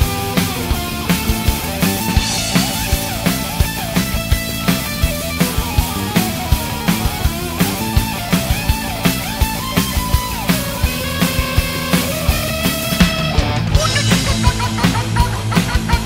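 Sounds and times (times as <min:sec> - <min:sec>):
drum kit beat: 0:00.0 - 0:16.0.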